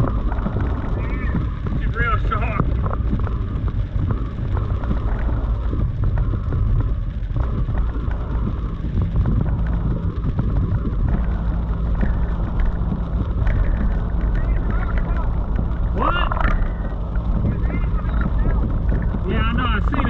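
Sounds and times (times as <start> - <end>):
hard rain on vehicle: 0.0 - 20.0
low vehicle rumble: 0.0 - 20.0
strong wind against vehicle: 0.0 - 20.0.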